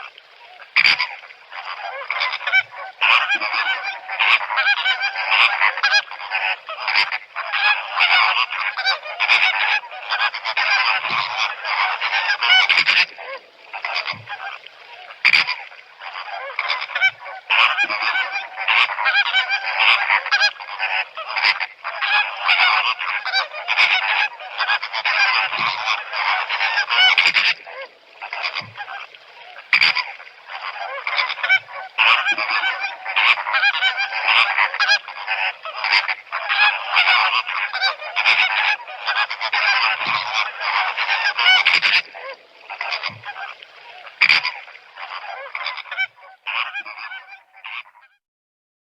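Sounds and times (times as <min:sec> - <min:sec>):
flamingos honking: 0:00.0 - 0:48.1.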